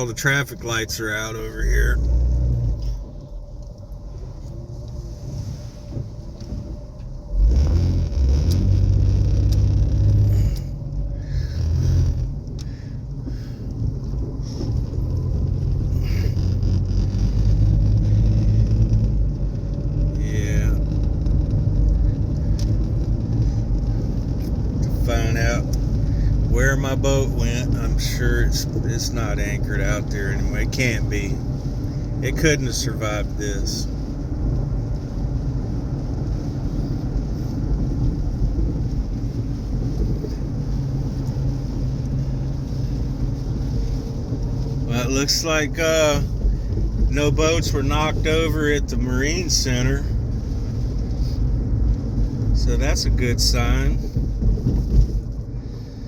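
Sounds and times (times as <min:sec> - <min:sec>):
car engine and tyres rumbling: 0:00.0 - 0:56.0
low steady hum: 0:00.0 - 0:56.0.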